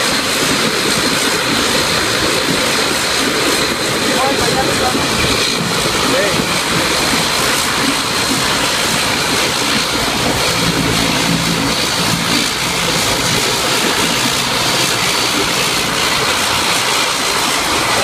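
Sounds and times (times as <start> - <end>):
turboprop engines droning: 0.0 - 18.0.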